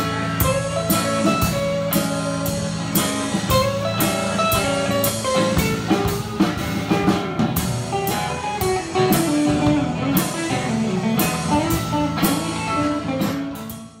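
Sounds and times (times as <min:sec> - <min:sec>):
drum kit beat: 0:00.0 - 0:14.0
electric guitars playing: 0:00.0 - 0:14.0.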